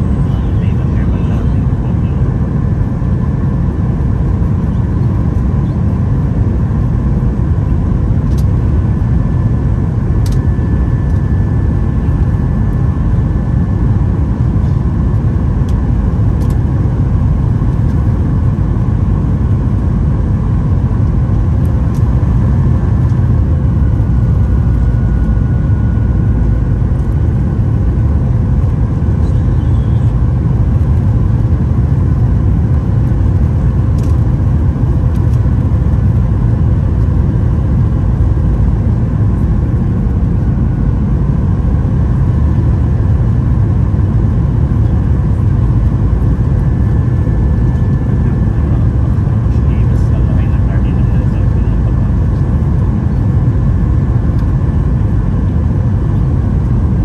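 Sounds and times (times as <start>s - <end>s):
airliner cabin engine rumble: 0.0s - 57.0s
faint high hum: 0.0s - 57.0s.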